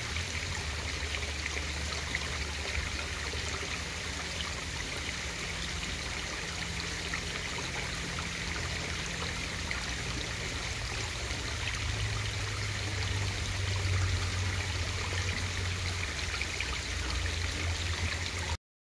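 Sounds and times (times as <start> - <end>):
water rushing and crackling: 0.0 - 18.6.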